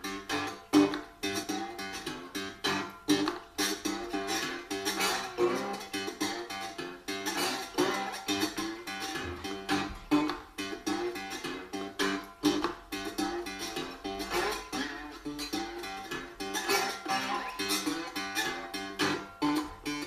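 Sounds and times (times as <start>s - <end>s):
acoustic guitar riff: 0.0s - 20.0s.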